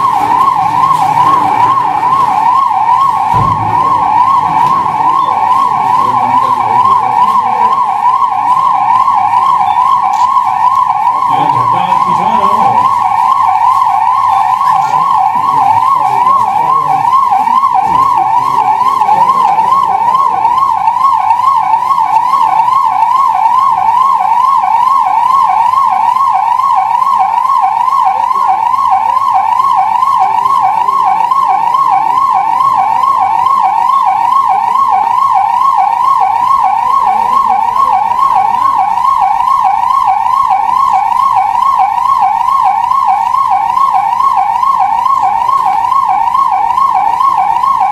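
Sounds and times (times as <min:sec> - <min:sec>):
ambulance siren: 0:00.0 - 0:47.9.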